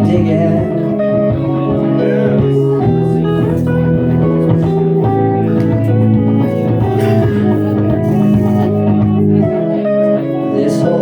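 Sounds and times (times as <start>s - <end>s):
electric guitar music: 0.0s - 11.0s
low bass notes: 0.0s - 11.0s.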